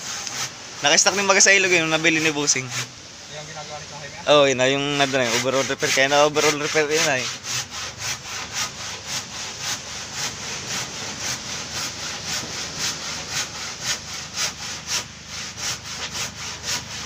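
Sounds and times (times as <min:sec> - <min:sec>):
handsaw cutting wood: 0:00.0 - 0:17.0.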